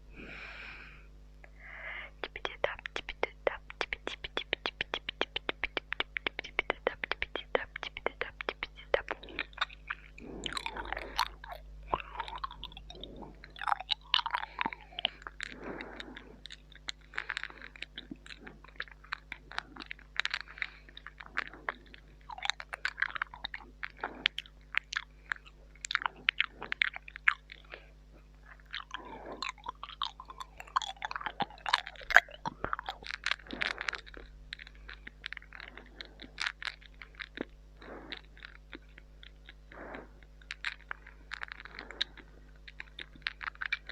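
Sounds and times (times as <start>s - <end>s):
chewing noises: 1.4s - 43.9s
tongue clicks: 1.4s - 43.9s
wet mouth smacks: 2.2s - 43.9s.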